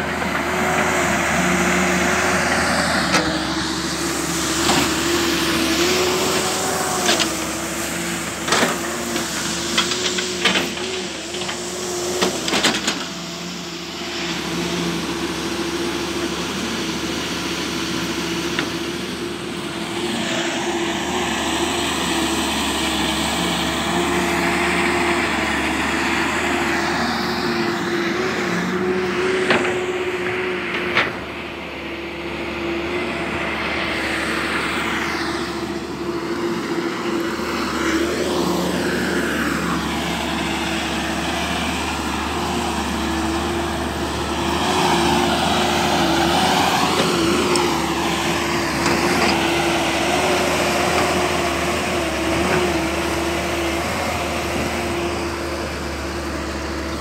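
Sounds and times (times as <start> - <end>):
excavator engine drone: 0.0 - 57.0.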